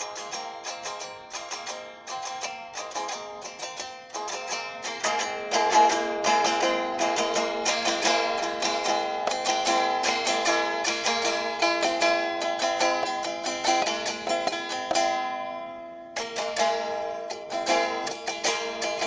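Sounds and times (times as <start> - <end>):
guitar plucked notes: 0.0 - 19.0.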